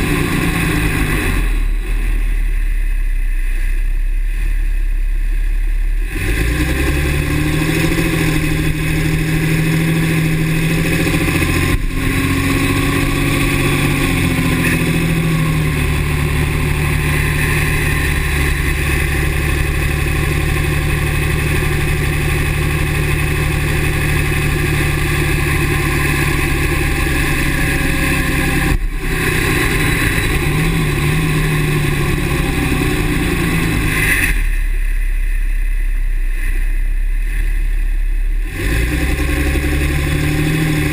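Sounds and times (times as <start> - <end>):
diesel engine running: 0.0 - 40.9
high-pitched squeal: 0.0 - 40.9.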